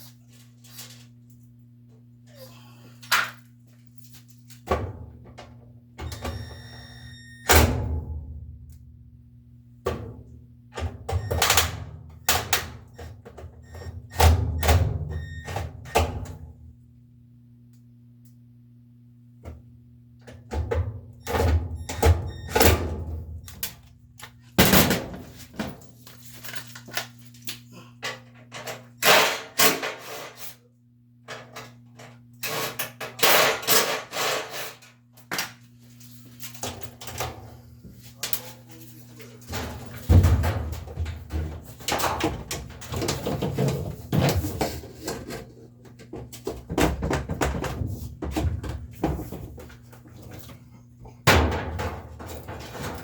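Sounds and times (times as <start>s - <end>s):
steady low hum: 0.0s - 29.5s, 35.1s - 53.0s.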